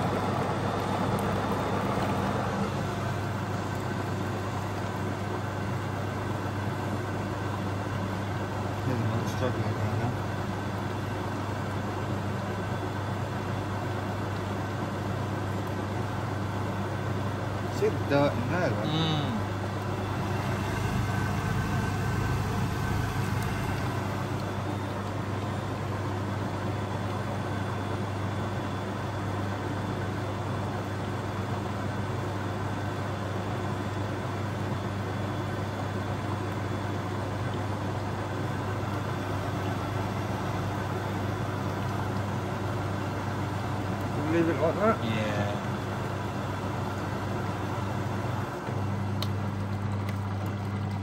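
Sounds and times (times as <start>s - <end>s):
washing machine humming: 0.0s - 51.0s.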